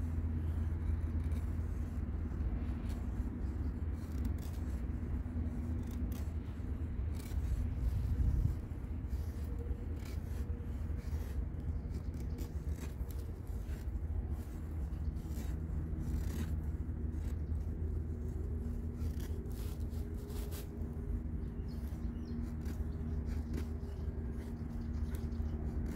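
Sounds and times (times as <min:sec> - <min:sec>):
knife scraping wood: 0:00.0 - 0:25.9.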